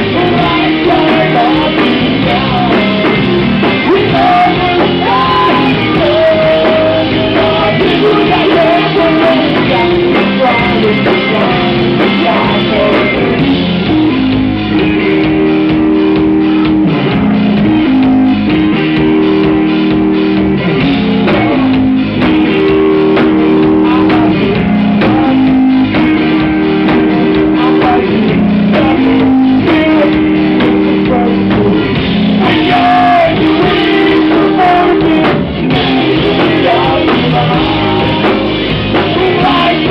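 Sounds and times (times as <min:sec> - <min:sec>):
person singing: 0:00.0 - 0:14.0, 0:20.8 - 0:39.9
repeating guitar riff: 0:00.0 - 0:39.9
rock band playing: 0:00.0 - 0:39.9.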